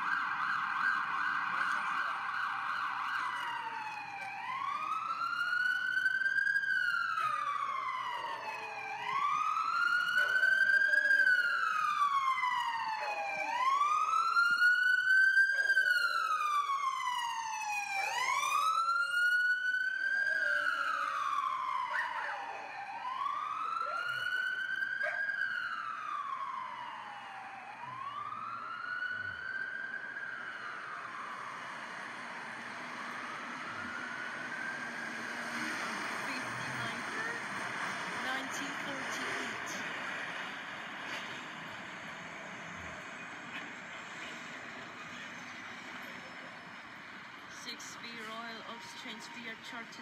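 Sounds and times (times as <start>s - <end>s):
emergency vehicle siren wailing: 0.0s - 50.0s.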